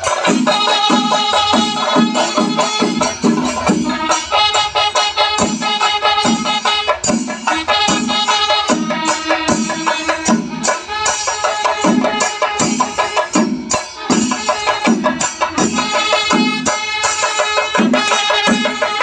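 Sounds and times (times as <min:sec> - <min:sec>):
drums beaten with sticks: 0:00.0 - 0:19.0.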